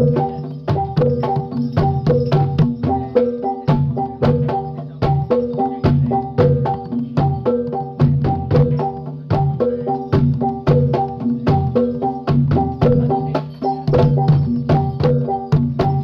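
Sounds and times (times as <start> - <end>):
drum strokes: 0.0 - 16.0
struck ringing metal tones: 0.0 - 16.0.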